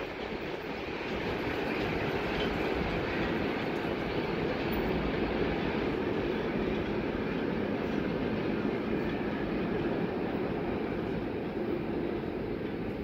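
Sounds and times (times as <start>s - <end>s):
distant freight train rolling: 0.0s - 13.0s.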